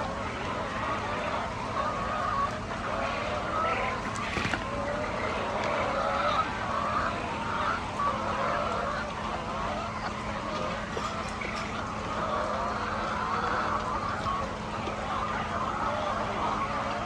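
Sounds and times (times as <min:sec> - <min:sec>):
chickens clucking: 0:00.0 - 0:17.0
steady low hum: 0:00.0 - 0:17.0.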